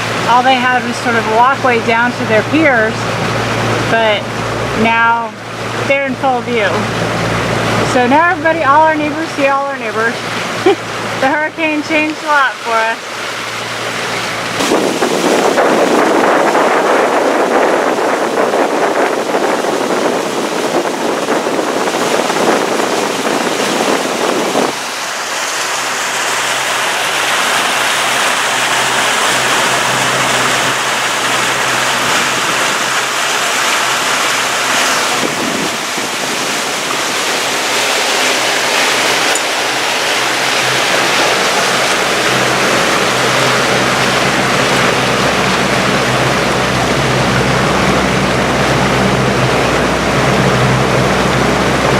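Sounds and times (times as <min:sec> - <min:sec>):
boat motor humming: 0:00.0 - 0:51.9
water rushing: 0:00.0 - 0:51.9
wind buffeting microphone: 0:00.0 - 0:51.9.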